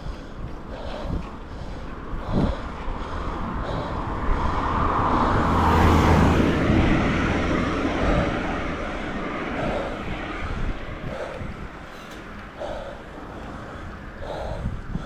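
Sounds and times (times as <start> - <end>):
road noise: 0.0 - 15.0
wind noise on microphone: 0.0 - 15.0.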